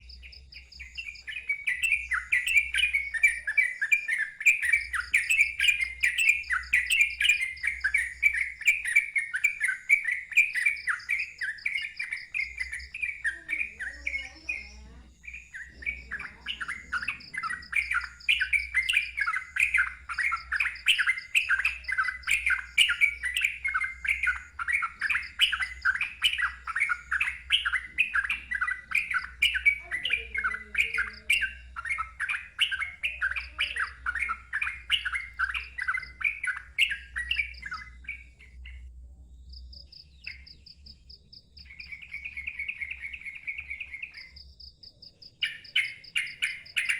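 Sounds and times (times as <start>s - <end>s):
bird singing chattering notes: 0.0s - 46.9s.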